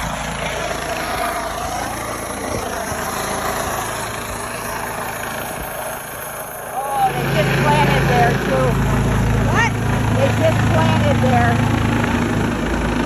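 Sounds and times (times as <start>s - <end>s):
helicopter running: 0.0s - 13.0s.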